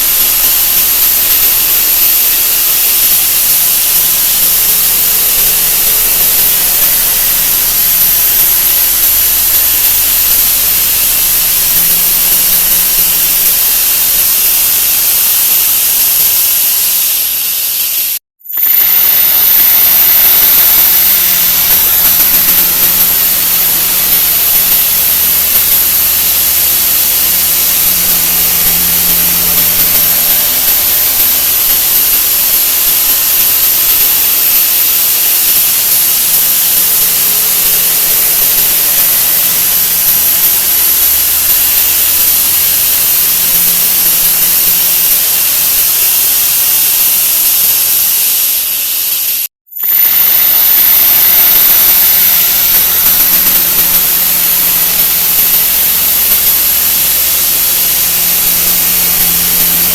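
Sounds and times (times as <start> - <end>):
high-pitched whine: 0.0 - 59.9
loud steady hiss: 0.0 - 59.9.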